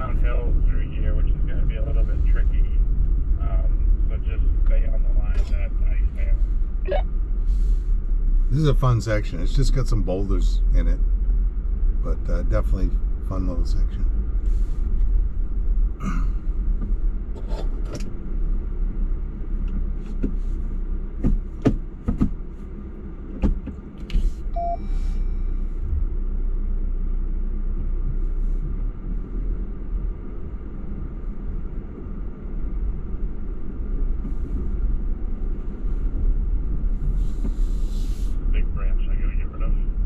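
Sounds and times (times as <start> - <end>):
vehicle engine rumble: 0.0 - 40.0.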